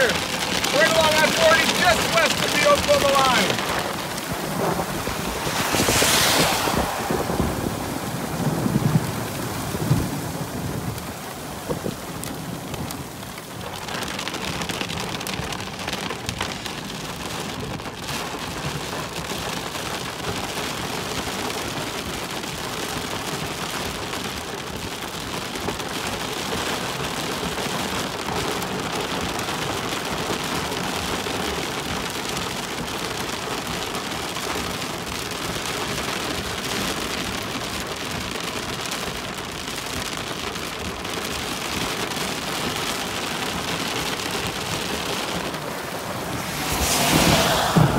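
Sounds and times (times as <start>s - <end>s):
hail and rain falling: 0.0s - 47.9s.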